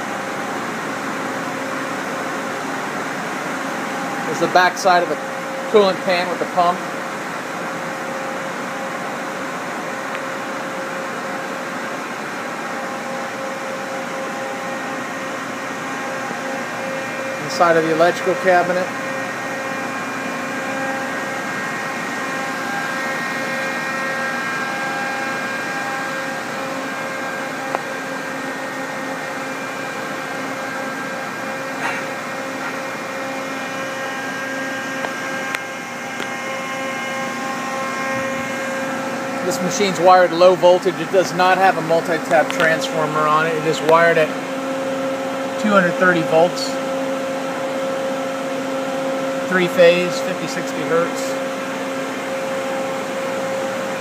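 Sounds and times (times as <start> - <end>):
machine shop whirring hum: 0.0 - 54.0.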